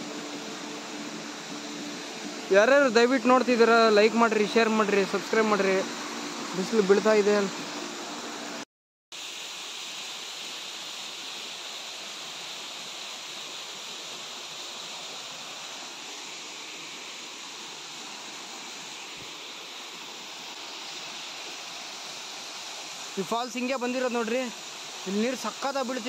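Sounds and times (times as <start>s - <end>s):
stream rushing through rocks: 0.0s - 8.6s, 9.2s - 26.0s.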